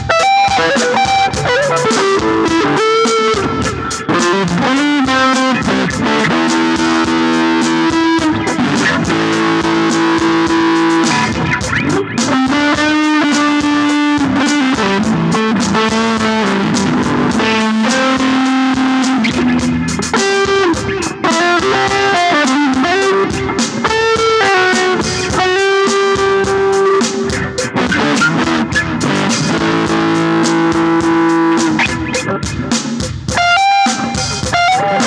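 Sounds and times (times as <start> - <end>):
electric guitar playing: 0.0 - 35.0.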